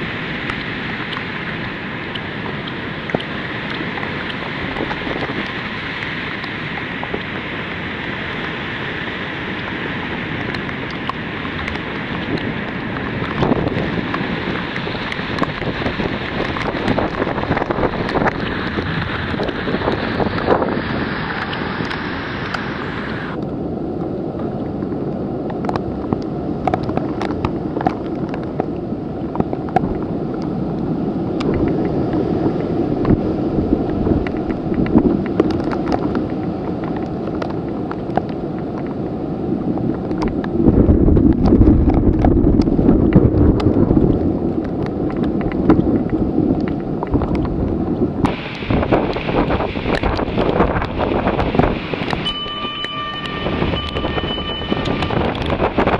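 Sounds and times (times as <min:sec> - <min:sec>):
rain hiss: 0:00.0 - 0:24.0, 0:24.7 - 0:55.9
raindrops ticking on camera: 0:00.0 - 0:55.9
wind gusting against microphone: 0:00.0 - 0:55.9.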